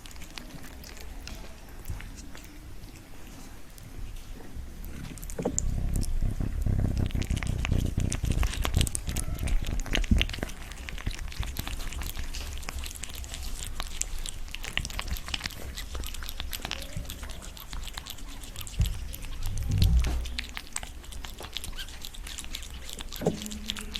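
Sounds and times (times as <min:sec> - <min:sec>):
cat chewing wetly: 0:00.0 - 0:23.9.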